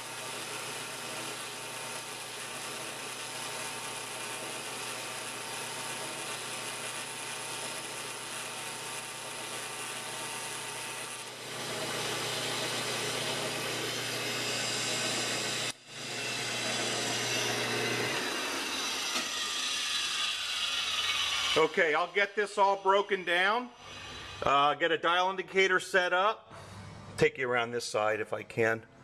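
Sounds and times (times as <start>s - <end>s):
grinder motor whine with hiss: 0.0s - 24.5s.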